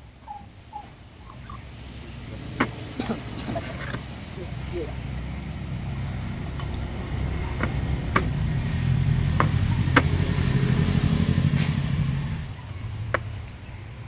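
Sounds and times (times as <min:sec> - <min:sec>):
low rumble: 0:01.2 - 0:14.0.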